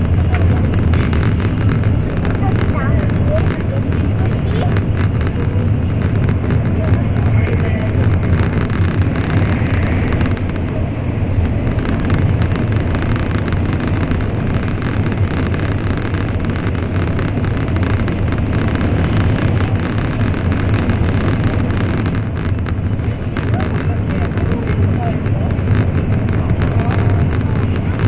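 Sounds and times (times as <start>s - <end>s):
train cabin rumble and rushing: 0.0s - 28.0s.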